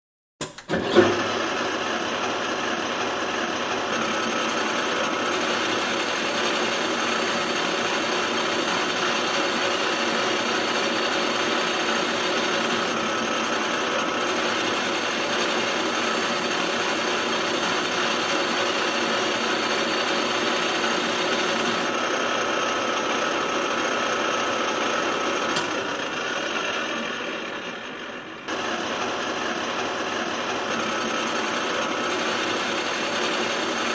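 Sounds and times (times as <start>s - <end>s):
drilling machine whine: 0.7s - 33.9s.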